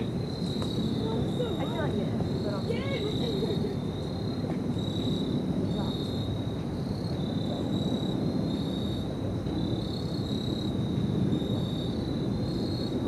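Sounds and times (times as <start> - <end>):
insects chirring: 0.0 - 13.0
steady low rumble: 0.0 - 13.0.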